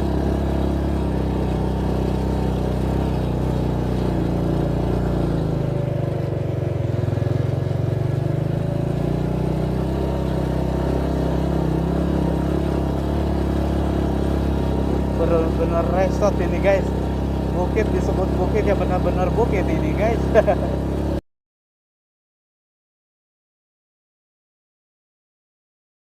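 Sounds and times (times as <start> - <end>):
motorcycle engine under load: 0.0 - 21.2.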